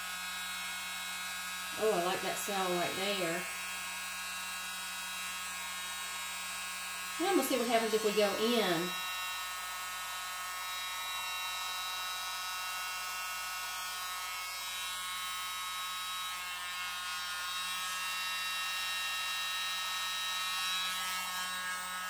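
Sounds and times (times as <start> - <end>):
mini fan motor whine: 0.0 - 22.0.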